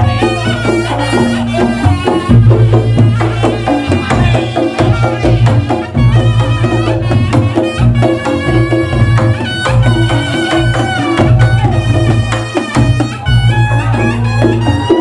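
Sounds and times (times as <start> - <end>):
hand drumming: 0.0 - 15.0
reedy wind instrument melody: 0.0 - 15.0
struck percussion: 0.0 - 15.0.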